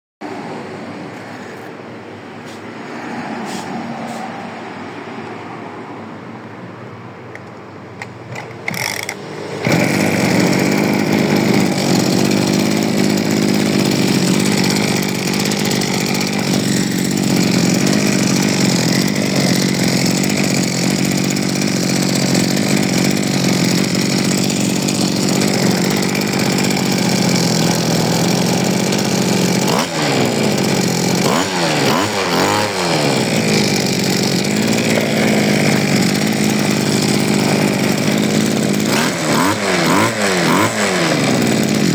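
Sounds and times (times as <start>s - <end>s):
brush cutter engine running: 8.2s - 41.9s.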